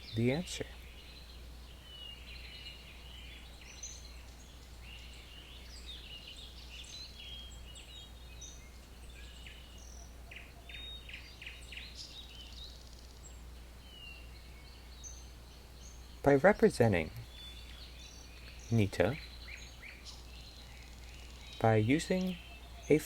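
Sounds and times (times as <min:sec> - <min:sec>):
birds chirping and whistling: 0:00.0 - 0:23.0.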